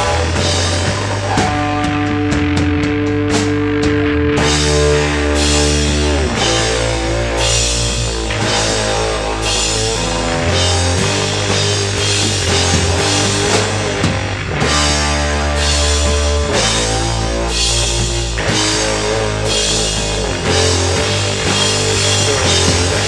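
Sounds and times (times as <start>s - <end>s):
drum kit with cymbals: 0.0s - 23.0s
electric guitar chords: 0.0s - 23.0s
rock band playing live: 0.0s - 23.0s.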